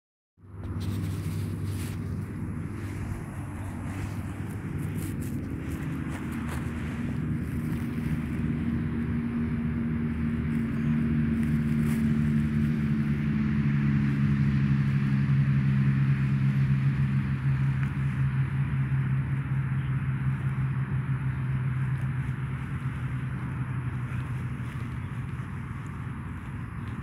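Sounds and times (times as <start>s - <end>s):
engine drone: 0.4s - 27.0s.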